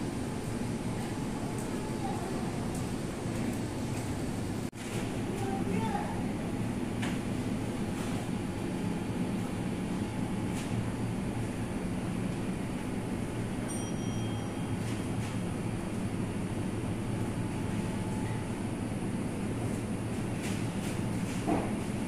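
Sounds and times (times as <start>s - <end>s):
refrigeration and ventilation hum: 0.0s - 22.0s.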